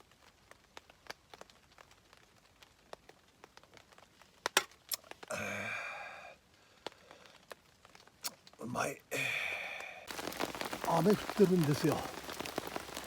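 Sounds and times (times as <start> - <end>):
sparse raindrops ticking: 0.0 - 13.0.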